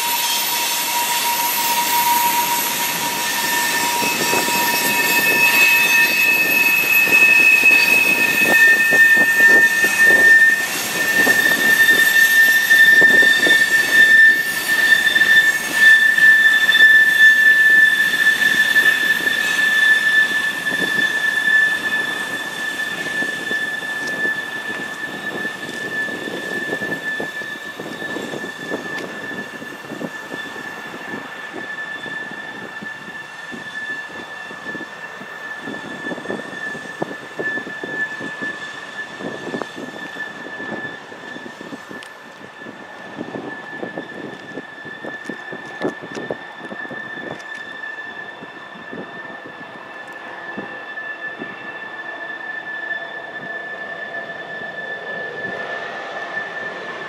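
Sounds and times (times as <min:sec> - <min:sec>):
freight train rumble: 0:00.0 - 0:57.0
train wheels squealing: 0:00.0 - 0:57.0.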